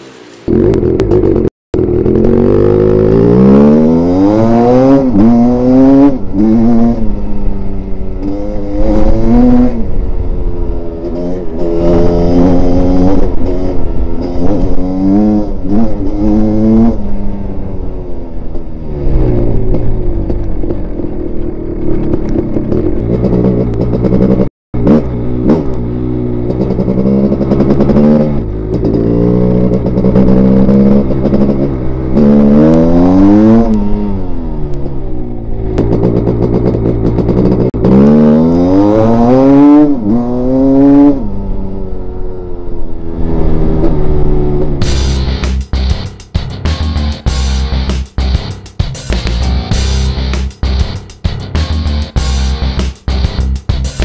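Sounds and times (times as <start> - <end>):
dirt bike engine accelerating: 0.0 - 54.0.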